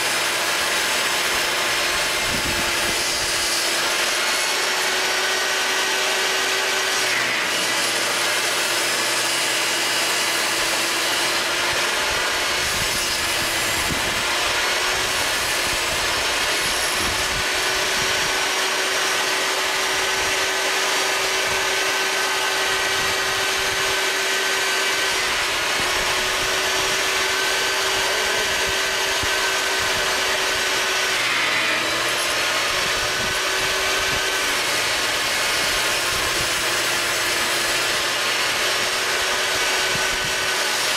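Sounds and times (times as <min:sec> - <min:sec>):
saw cutting through board: 0:00.0 - 0:40.9
table saw motor whine: 0:00.0 - 0:40.9.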